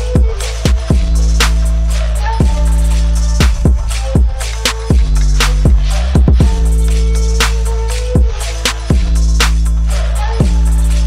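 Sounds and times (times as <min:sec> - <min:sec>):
hip-hop beat music: 0:00.0 - 0:11.0.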